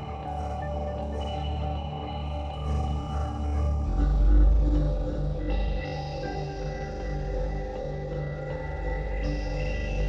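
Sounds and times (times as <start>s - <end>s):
low droning music: 0.0s - 10.0s.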